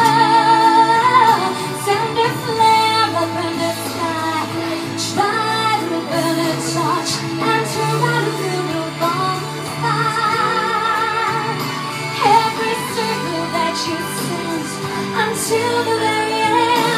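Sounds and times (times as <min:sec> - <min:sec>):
woman singing slow song: 0:00.0 - 0:16.9.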